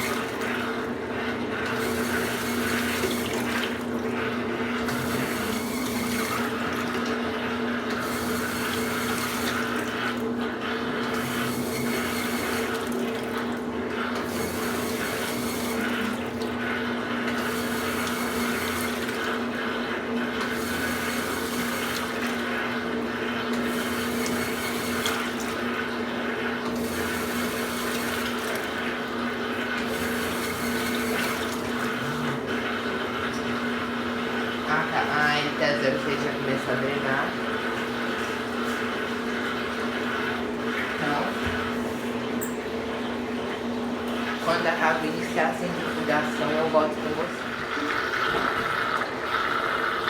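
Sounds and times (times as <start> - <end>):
drain pump humming: 0.0 - 50.0
water swishing in drum: 0.0 - 50.0.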